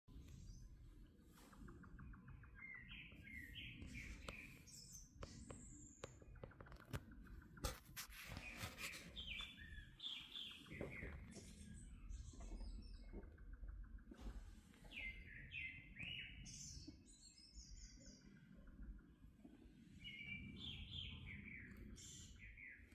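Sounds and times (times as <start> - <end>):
birds singing faintly: 0.1 - 22.9.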